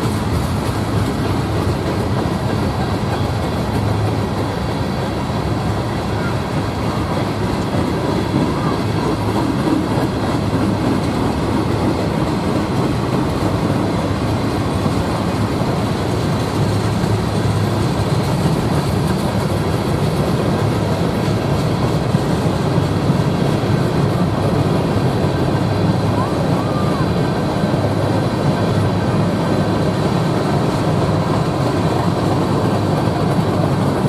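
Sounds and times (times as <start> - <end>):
train rolling over rails: 0.0 - 34.0.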